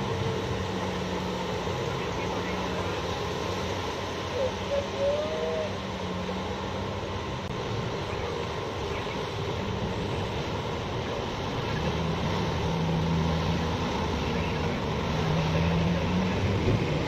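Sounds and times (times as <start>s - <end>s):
heavy machinery diesel engines droning: 0.0s - 17.0s.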